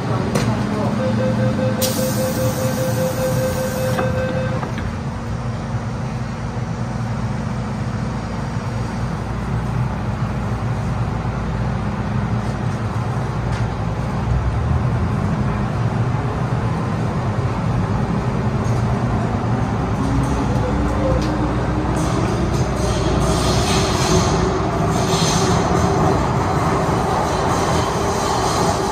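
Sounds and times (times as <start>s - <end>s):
train interior rumble: 0.0s - 28.9s.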